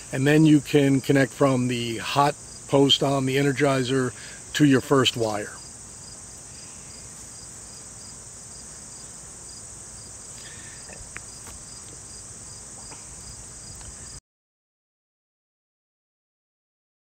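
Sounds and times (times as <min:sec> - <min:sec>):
insects chirping: 0:00.0 - 0:14.2.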